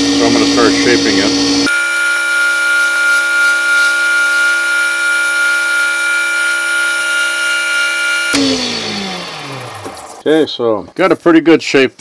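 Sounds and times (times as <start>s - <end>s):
wood lathe motor whining: 0.0s - 10.3s.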